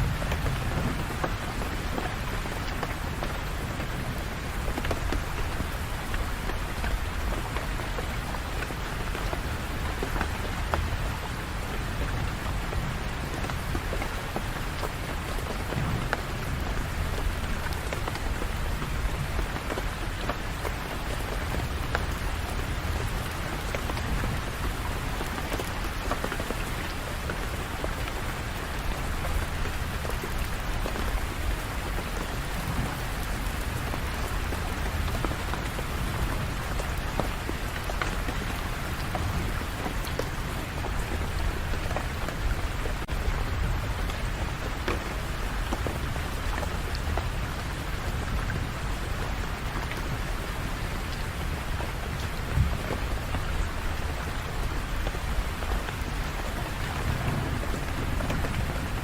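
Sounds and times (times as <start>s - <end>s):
rain on hard surfaces: 0.0s - 59.0s
raindrop ticks: 0.0s - 59.0s.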